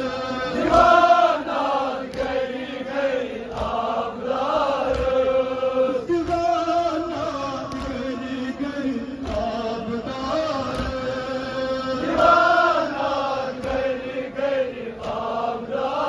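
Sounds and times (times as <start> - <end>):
men chanting a lament: 0.0 - 16.0.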